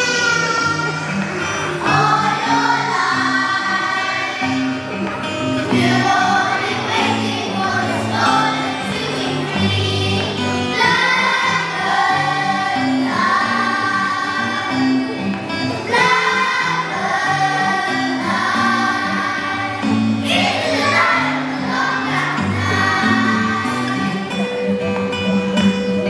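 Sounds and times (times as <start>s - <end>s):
instrumental backing with bass: 0.0s - 26.0s.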